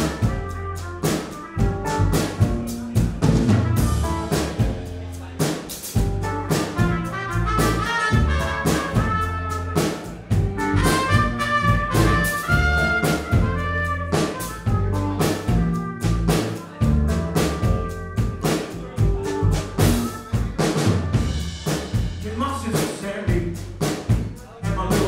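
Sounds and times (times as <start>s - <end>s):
trumpet melody: 0.0s - 4.7s, 6.0s - 21.8s
drum kit beat: 0.0s - 25.0s.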